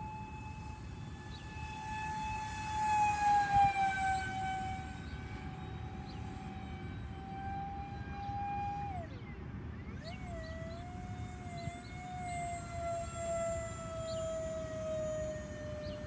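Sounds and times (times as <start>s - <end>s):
model plane electric motor whining: 0.0s - 16.0s.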